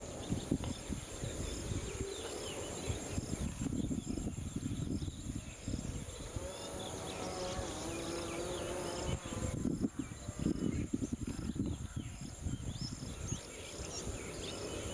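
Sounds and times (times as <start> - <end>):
insects high-pitched drone: 0.0 - 14.9
short insect chirp: 0.0 - 14.9.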